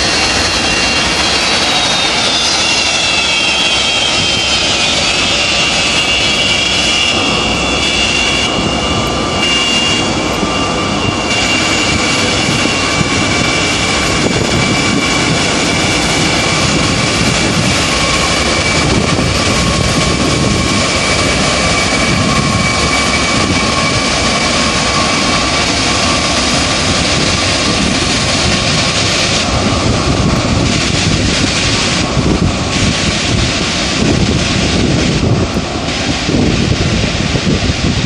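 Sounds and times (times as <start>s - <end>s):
jet engines roaring and whining: 0.0s - 38.0s.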